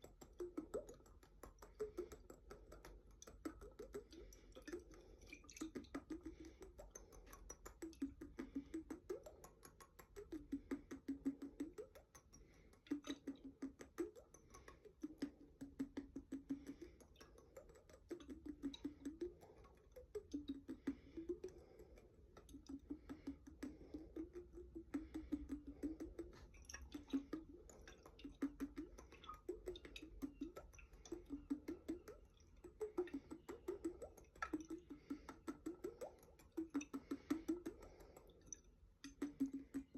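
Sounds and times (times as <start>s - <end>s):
fingers tapping glass jar: 0.0s - 39.9s.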